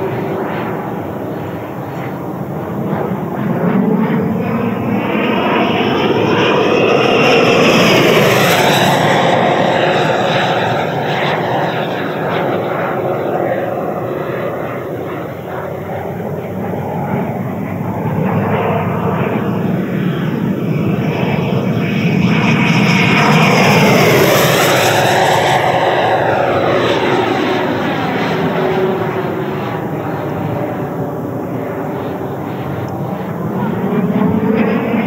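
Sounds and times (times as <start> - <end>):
ducted-fan jet model whine: 0.0 - 35.0.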